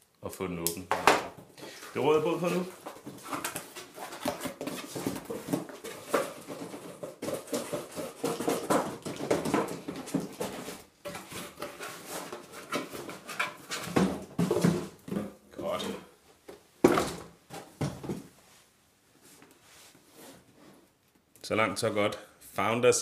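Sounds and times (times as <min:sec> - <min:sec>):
cardboard rustling and scraping: 0:01.4 - 0:21.0.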